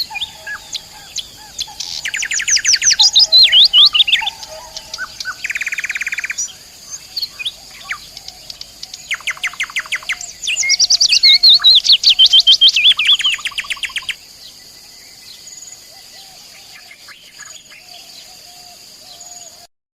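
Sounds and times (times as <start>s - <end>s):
faint bird chirps: 0.0s - 19.7s
nightingale singing: 0.0s - 19.7s.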